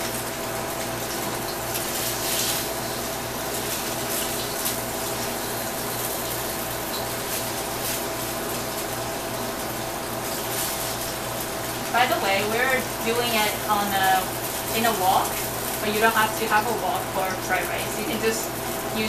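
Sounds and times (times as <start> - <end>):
tofu frying in oil: 0.0 - 19.0.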